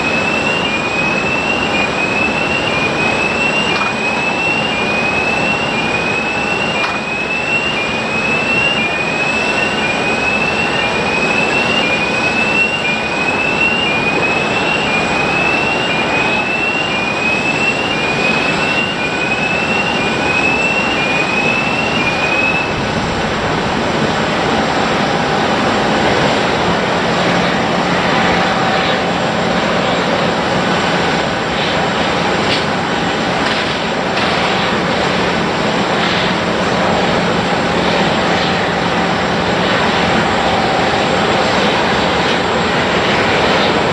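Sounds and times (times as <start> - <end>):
jet engine noise: 0.0 - 43.9
steady engine hum: 0.0 - 43.9.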